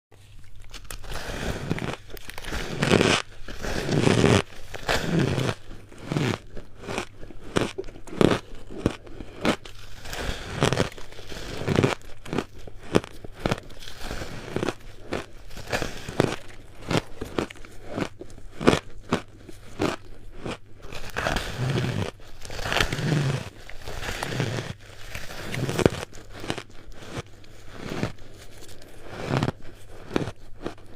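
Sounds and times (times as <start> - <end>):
ice being chewed crunching: 0.2 - 30.9.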